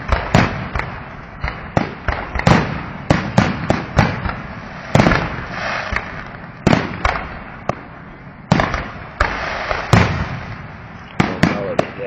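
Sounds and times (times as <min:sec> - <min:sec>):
fireworks bangs: 0:00.0 - 0:12.0
fireworks crackling and hiss: 0:00.0 - 0:12.0.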